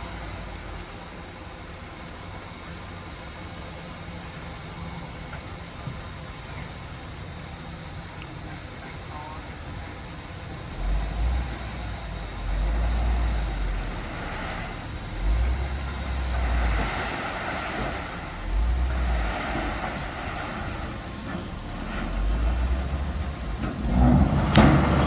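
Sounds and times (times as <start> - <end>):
diesel machinery engine rumble: 0.0 - 25.0.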